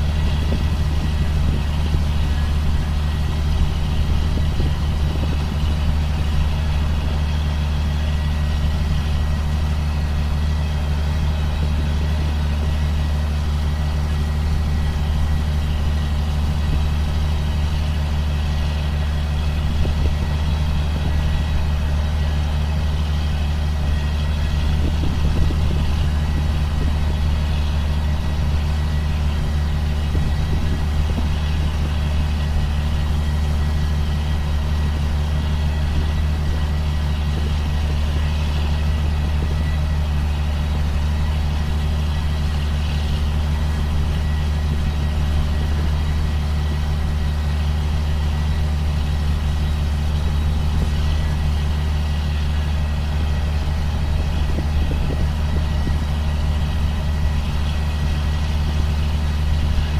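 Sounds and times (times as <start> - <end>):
diesel engine drone: 0.0 - 59.9.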